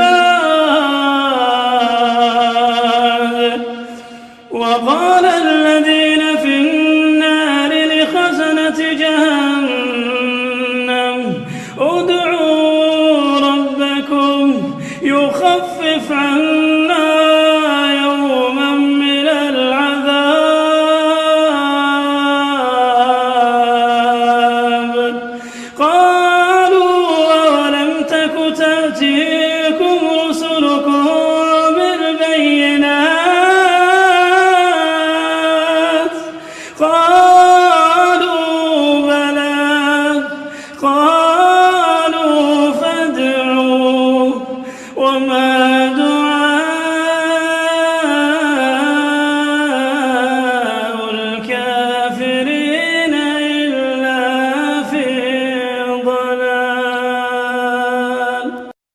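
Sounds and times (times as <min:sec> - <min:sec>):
person chanting recitation: 0:00.0 - 0:58.8.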